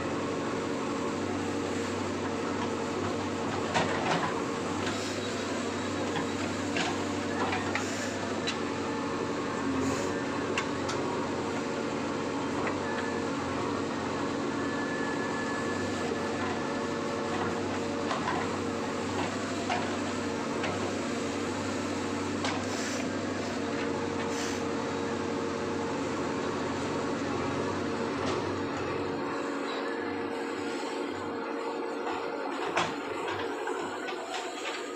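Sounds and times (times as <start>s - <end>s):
diesel engine running under load: 0.0s - 34.9s.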